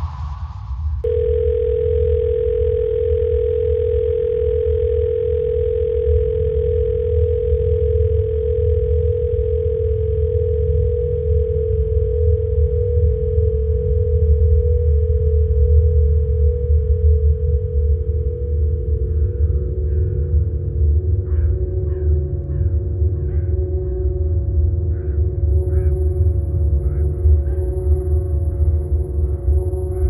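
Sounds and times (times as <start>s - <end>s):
deep low rumble: 0.0s - 24.9s
steady electronic tone: 1.0s - 30.0s.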